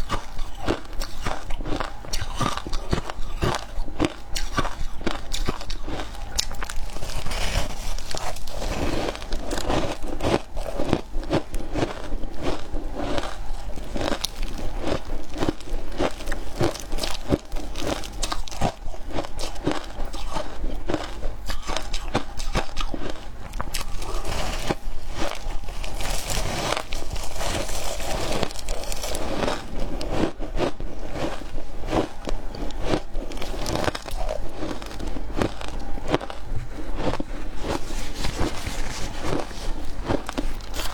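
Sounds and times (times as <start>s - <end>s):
crunching shaved ice: 0.0s - 40.9s
steady low hum: 0.0s - 40.9s.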